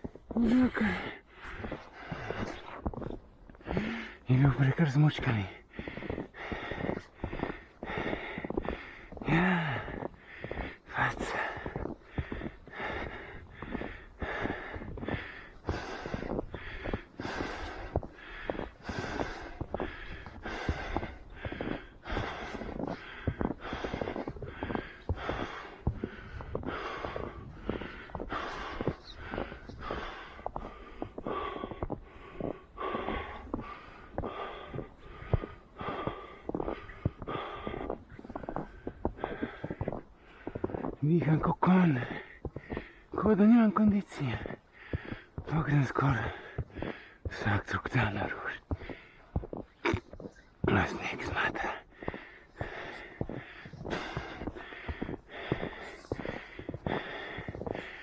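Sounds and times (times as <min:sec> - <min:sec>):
runner breathing heavily: 0:00.0 - 0:58.0.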